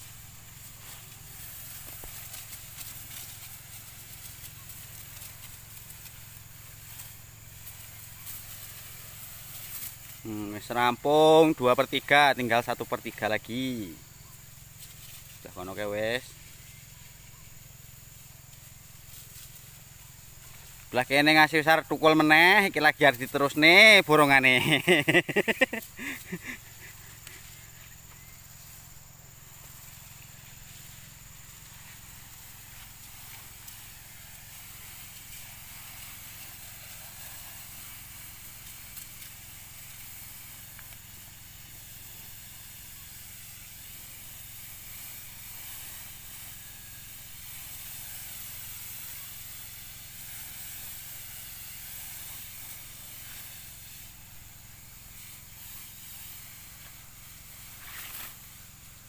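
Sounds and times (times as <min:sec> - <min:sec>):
high-pressure spray hissing: 0:00.0 - 0:59.0.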